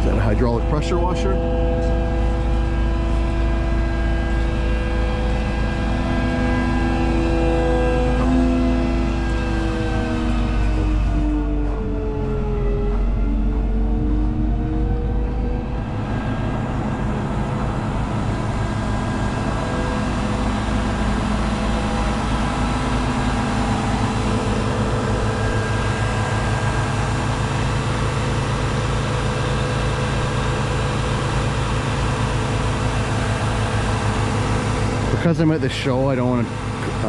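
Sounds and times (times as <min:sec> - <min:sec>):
high hydraulic whine: 0:00.0 - 0:37.0
truck engine hum: 0:00.0 - 0:37.0.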